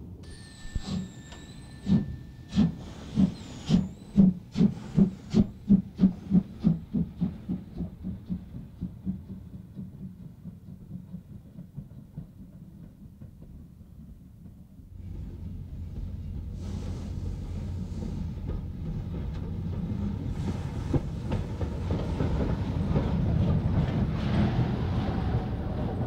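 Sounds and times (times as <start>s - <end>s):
steam locomotive exhaust chuffs: 0.3s - 26.0s.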